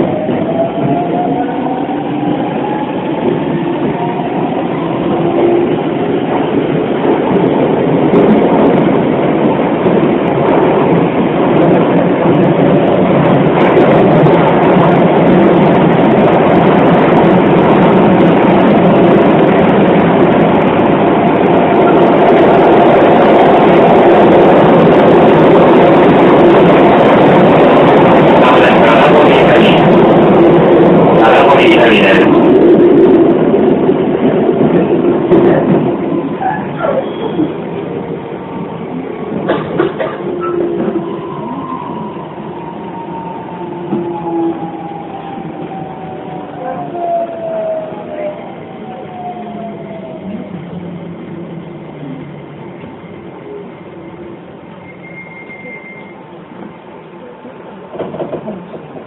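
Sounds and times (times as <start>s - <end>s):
train wheel and rail noise: 0.0s - 59.0s.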